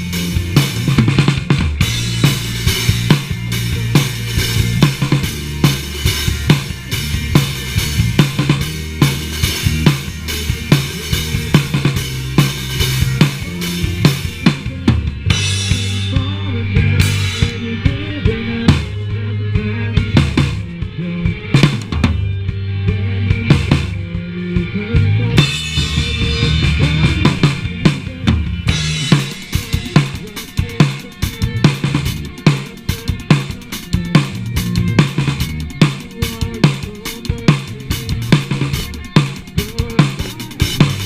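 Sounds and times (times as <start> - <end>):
bass guitar riff: 0.0 - 41.0
drum kit: 0.0 - 41.0
rock band playing: 0.0 - 41.0.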